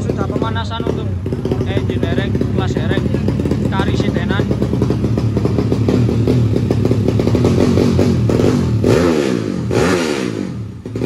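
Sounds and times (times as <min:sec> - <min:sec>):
motorcycle engine clattering and revving: 0:00.0 - 0:11.0.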